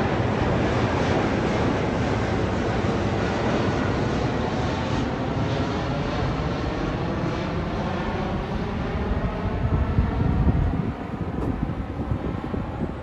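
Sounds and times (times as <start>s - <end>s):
airliner jet engine roar overhead: 0.0s - 13.0s.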